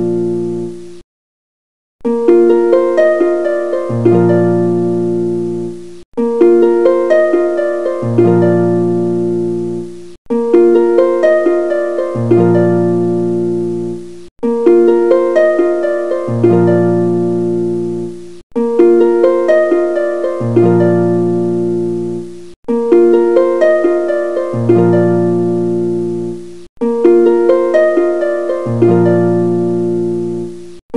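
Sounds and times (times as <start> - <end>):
plucked string melody: 0.0 - 1.0, 2.0 - 30.8.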